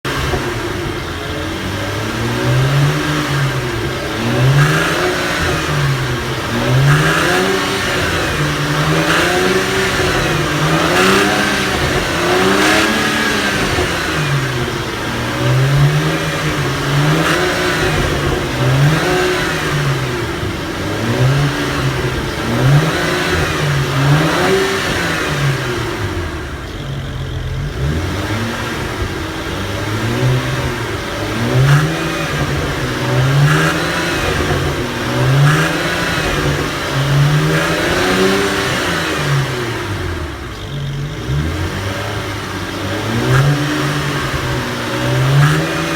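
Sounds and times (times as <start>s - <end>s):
engine revving in a cycle: 0.0s - 45.9s.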